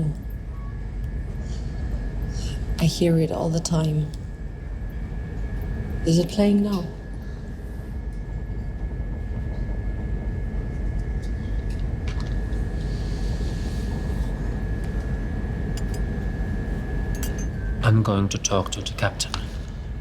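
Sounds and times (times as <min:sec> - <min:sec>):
low rumbling drone: 0:00.0 - 0:20.0.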